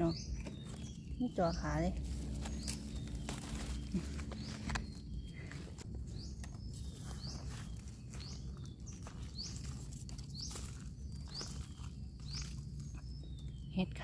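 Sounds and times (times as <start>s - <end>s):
bird chirping: 0.0s - 14.0s
rustling and scraping soil: 0.0s - 14.0s.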